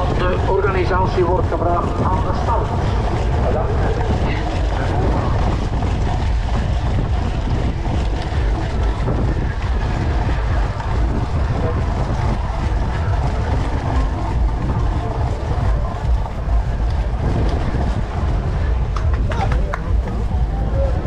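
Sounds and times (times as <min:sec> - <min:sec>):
bike rattling: 0:00.0 - 0:21.0
bike tyres rolling on dirt: 0:00.0 - 0:21.0
wind buffeting microphone: 0:00.0 - 0:21.0.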